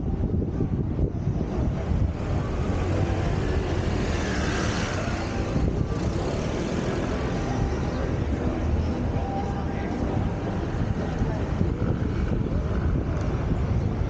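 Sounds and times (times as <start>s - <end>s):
car driving in traffic: 0.0s - 14.0s.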